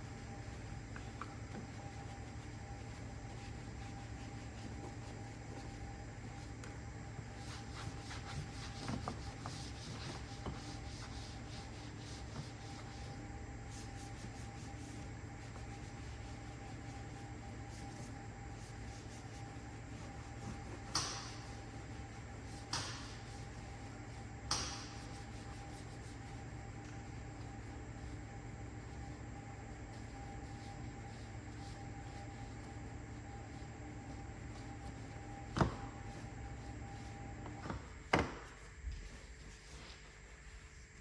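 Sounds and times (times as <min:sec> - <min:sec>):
rubbing and brushing: 0:00.0 - 0:41.0
steady low hum: 0:00.0 - 0:41.0.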